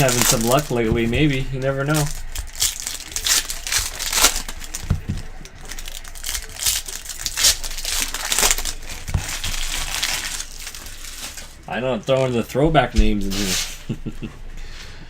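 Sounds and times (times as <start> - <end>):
plastic wrappers tearing and crinkling: 0.0 - 12.4, 13.2 - 13.8.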